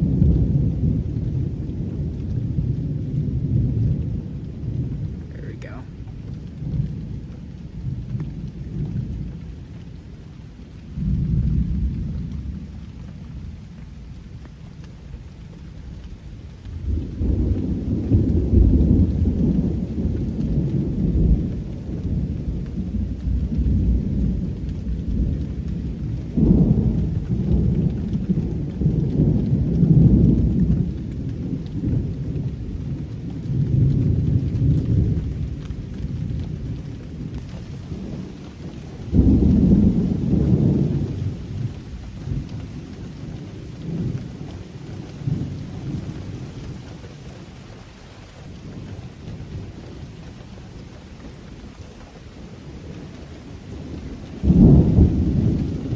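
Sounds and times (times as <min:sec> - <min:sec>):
steady rainfall: 0:00.0 - 0:55.9
thunder rumbling: 0:00.0 - 0:55.9.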